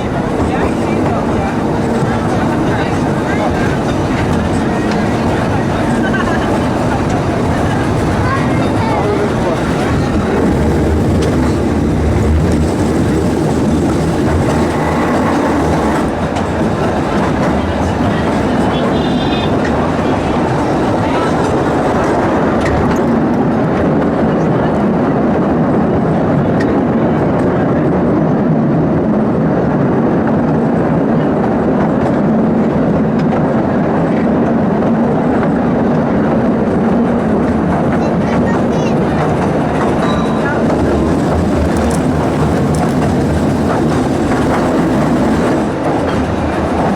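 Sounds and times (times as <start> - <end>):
faint track clacks: 0.0 - 25.2, 30.4 - 46.9
train wheels rumbling on rails: 0.0 - 46.9.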